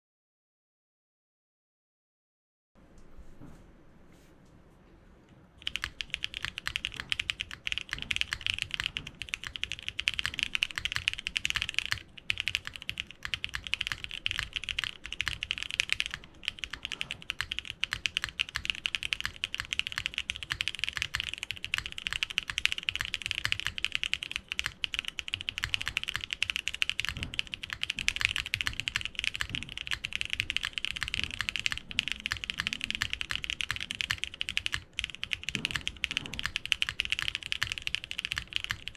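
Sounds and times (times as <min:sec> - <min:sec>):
fast mechanical keyboard typing: 0:05.6 - 0:38.9.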